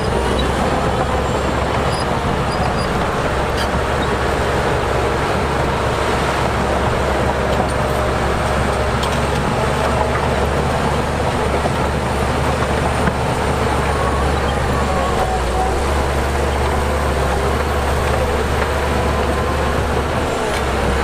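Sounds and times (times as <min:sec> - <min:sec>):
heavy machinery engine drone: 0:00.0 - 0:21.0.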